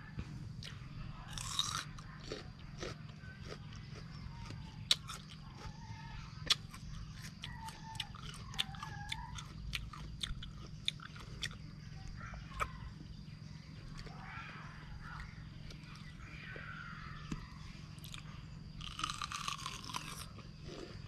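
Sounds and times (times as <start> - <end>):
crunchy fruit being chewed: 0.1 - 21.0.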